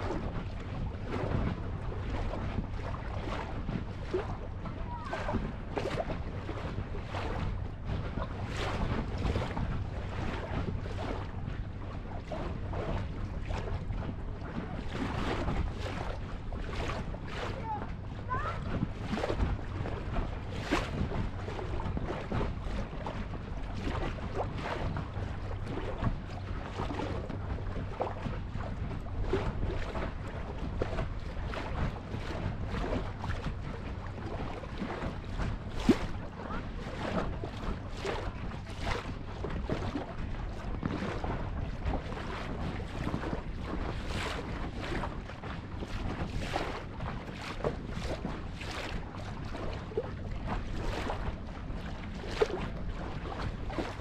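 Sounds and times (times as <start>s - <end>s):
water splashing along boat hull: 0.0s - 54.0s
wind buffeting microphone: 0.0s - 54.0s.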